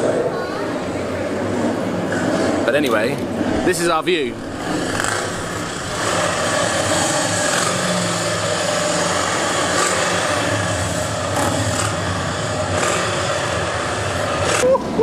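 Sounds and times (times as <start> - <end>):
distant racing car engine: 0.0 - 15.0
motorcycle engines running: 0.0 - 15.0.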